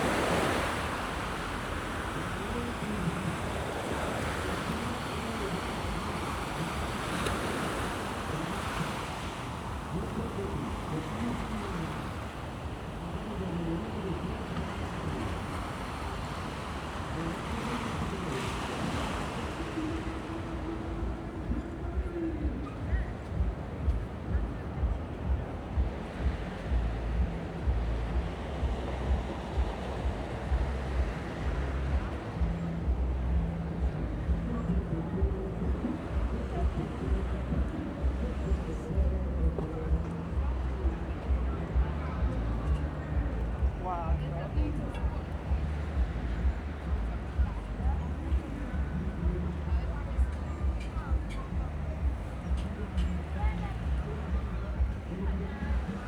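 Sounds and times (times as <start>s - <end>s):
sea waves washing onto beach: 0.0s - 56.0s
wind rumbling on microphone: 0.0s - 56.0s.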